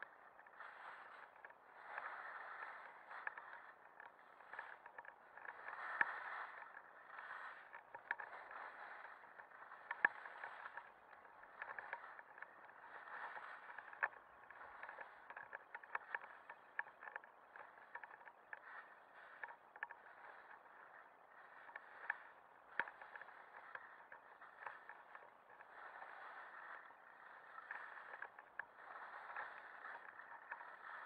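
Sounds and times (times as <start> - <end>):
skis scraping over snow: 0.0 - 31.0
sharp clicks and knocks: 0.4 - 31.0.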